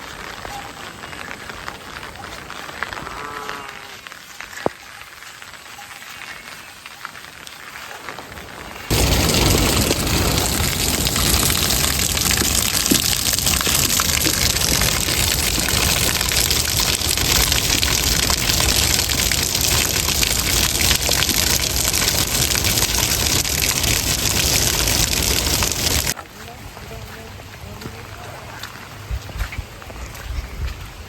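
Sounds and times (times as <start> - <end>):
heavy rain: 0.0 - 3.2, 4.1 - 26.2.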